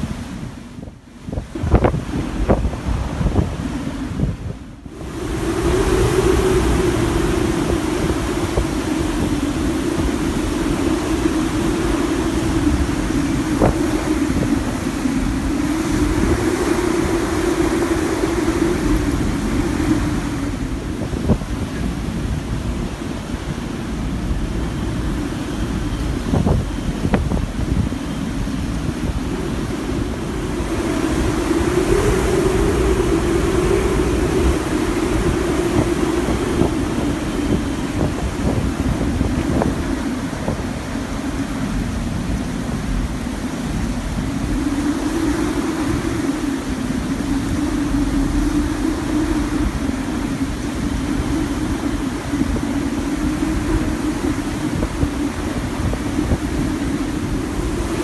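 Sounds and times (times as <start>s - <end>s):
low moaning wind tone: 0.0s - 58.0s
wind buffeting microphone: 0.0s - 58.0s.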